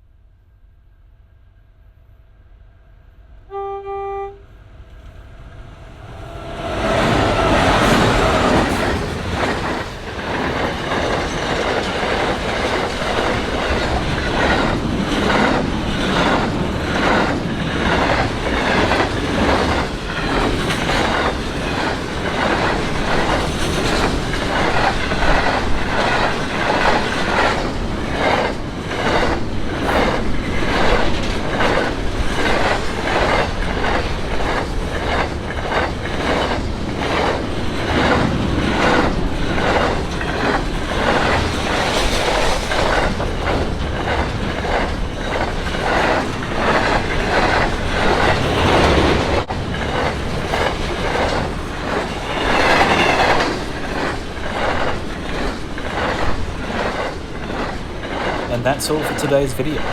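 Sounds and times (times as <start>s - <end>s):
rumble of train wagons: 0.0s - 59.9s
train wheels clacking: 6.4s - 59.9s.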